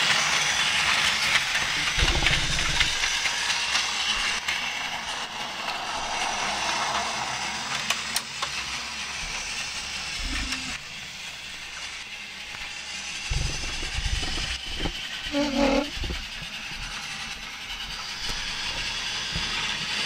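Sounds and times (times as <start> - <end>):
toy train motor whirring: 0.0 - 20.0
wheels rattling on plastic track: 0.0 - 20.0.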